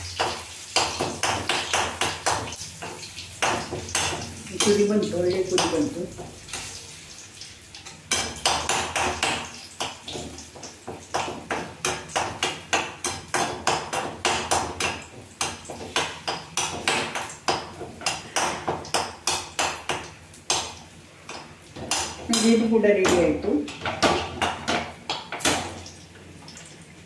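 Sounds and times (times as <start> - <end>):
metal spoon clanking in pan: 0.1 - 6.8, 7.7 - 25.9.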